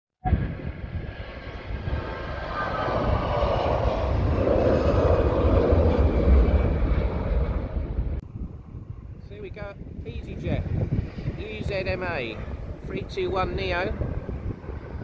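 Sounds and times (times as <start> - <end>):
jet engines roaring: 0.2 - 15.0.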